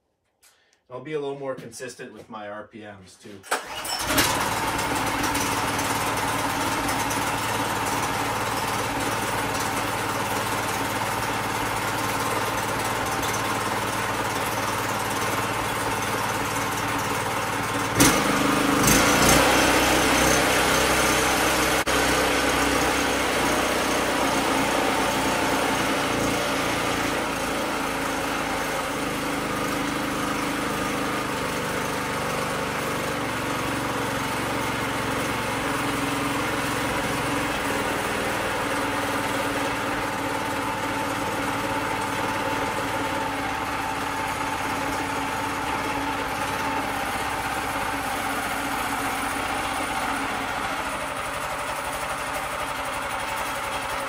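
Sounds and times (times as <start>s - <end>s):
small engine running: 3.5s - 54.0s.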